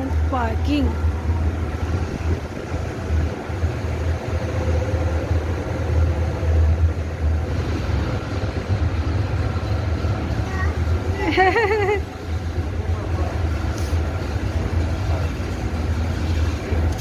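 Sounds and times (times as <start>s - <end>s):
escalator rumbling: 0.0s - 17.0s.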